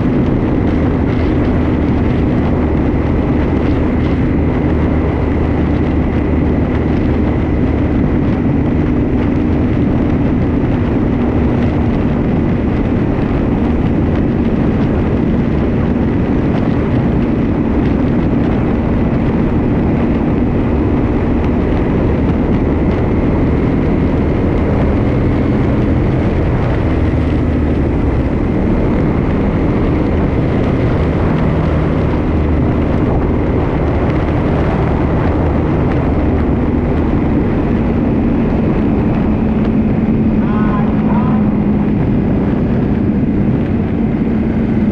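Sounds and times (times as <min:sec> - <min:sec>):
road and wind noise: 0:00.0 - 0:44.9
vehicle engine cruising: 0:00.0 - 0:44.9.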